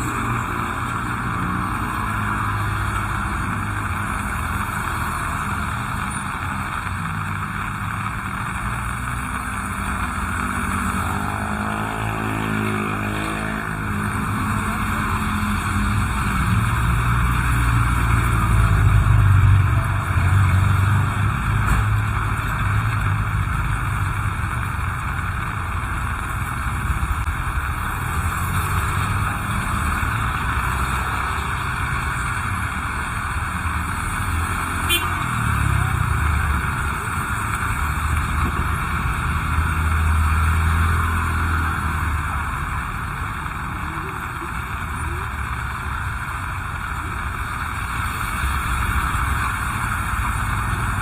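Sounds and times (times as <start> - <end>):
heavy rain falling: 0.0 - 51.0
vehicle passing on wet road: 0.0 - 51.0.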